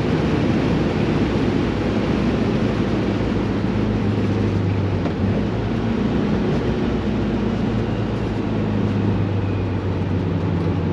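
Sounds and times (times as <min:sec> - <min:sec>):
car engine running: 0:00.0 - 0:10.9
wind and road noise: 0:00.0 - 0:10.9.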